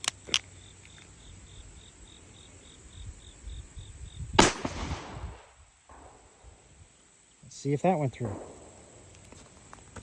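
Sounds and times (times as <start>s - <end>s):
cricket chirping: 0.0s - 10.0s.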